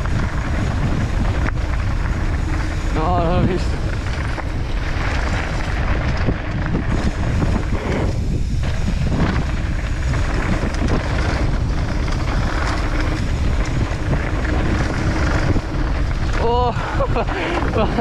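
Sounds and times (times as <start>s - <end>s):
tyres rattling over gravel: 0.0s - 18.0s
wind buffeting microphone: 0.0s - 18.0s.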